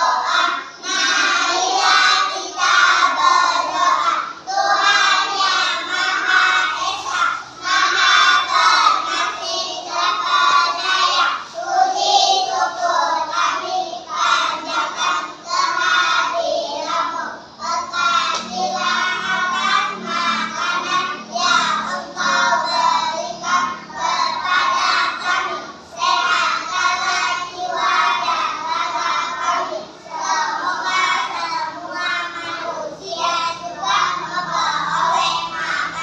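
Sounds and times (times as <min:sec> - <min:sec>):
children singing together: 0:00.0 - 0:36.0.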